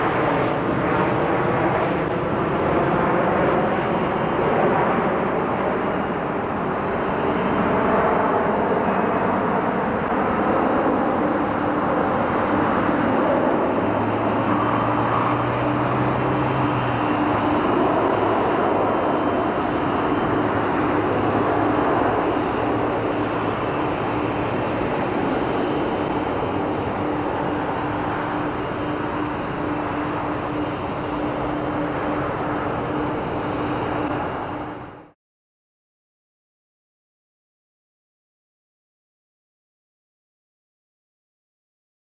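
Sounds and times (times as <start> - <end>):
high jet engine whine: 0.0 - 35.2
jet engine rumble: 0.0 - 35.2.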